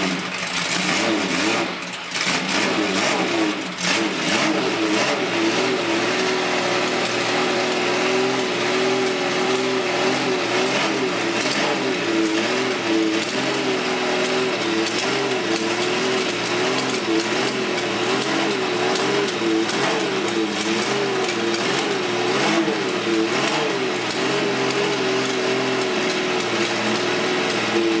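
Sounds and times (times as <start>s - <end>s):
racing engine idling: 0.0s - 28.0s.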